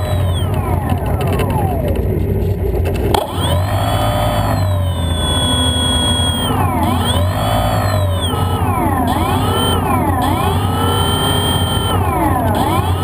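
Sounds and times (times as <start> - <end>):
electric motor and propeller whine: 0.0 - 13.0.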